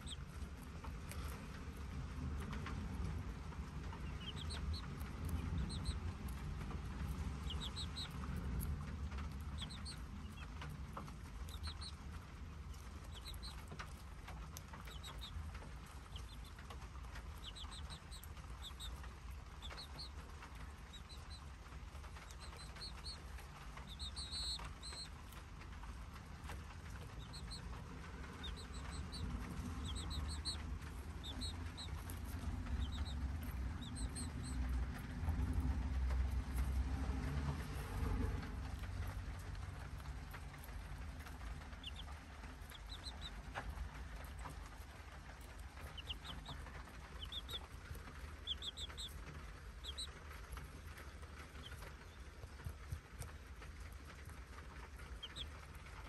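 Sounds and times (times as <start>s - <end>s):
chicks peeping: 0.0s - 56.0s
steady low rumble: 0.0s - 56.0s.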